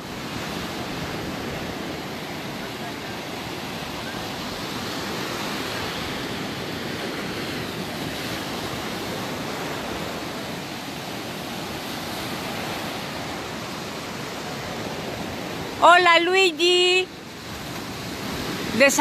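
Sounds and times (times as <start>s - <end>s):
small waves breaking on sand: 0.0s - 19.0s.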